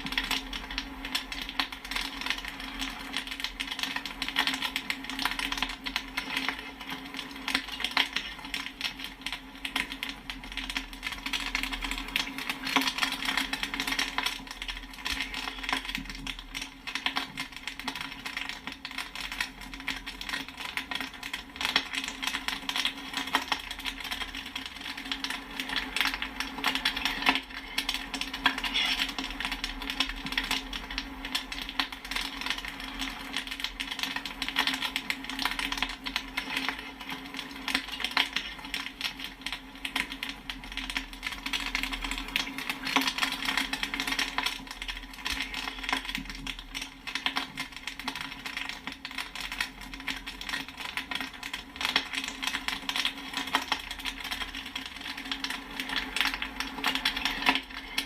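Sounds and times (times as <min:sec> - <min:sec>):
popcorn popping: 0:00.0 - 0:58.0.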